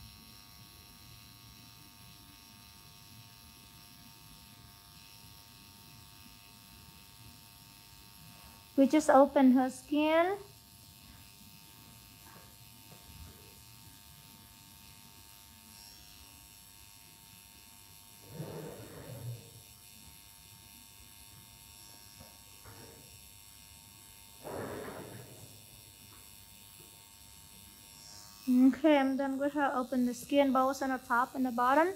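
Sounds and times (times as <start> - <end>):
tattoo pen machine buzzing: 0.0 - 31.9.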